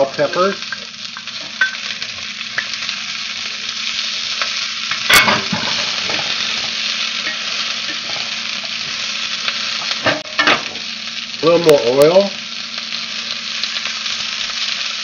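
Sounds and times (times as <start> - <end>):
peppers sizzling in oil: 0.0 - 15.0.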